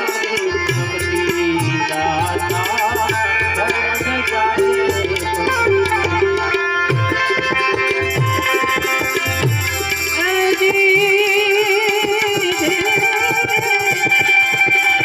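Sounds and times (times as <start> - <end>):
harmonium chords: 0.0 - 15.0
tabla strokes: 0.0 - 15.0.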